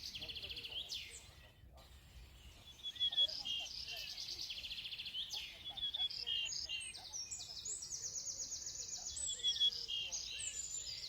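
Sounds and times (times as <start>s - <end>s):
songbirds trilling and chirping: 0.0s - 11.0s.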